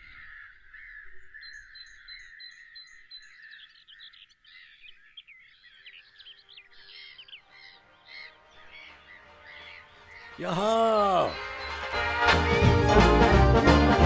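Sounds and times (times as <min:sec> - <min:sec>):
birds chirping and singing: 0:00.0 - 0:13.9.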